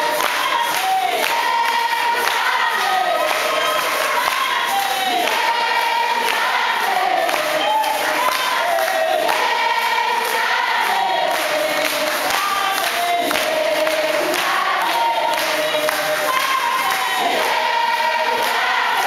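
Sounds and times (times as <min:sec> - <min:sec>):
children singing: 0:00.0 - 0:19.0
hand clapping: 0:00.0 - 0:19.0.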